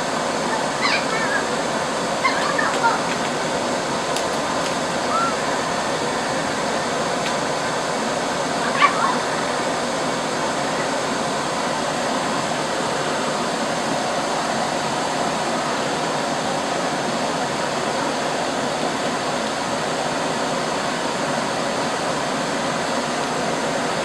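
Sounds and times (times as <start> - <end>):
laser cutter fans rushing: 0.0 - 24.0.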